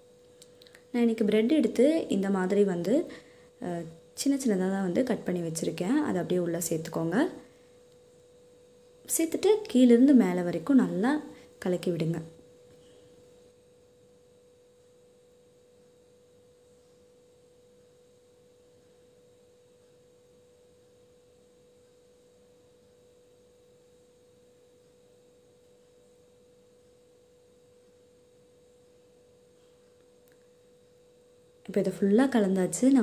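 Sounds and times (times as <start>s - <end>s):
faint steady tone: 0.0s - 33.0s.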